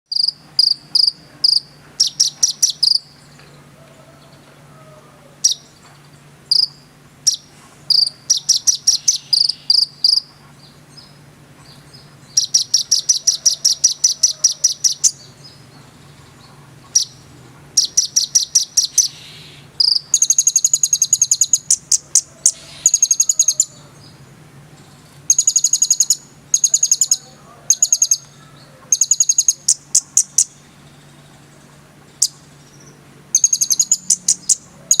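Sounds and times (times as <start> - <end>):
bird singing rapid trills: 0.1 - 3.4, 5.4 - 35.0.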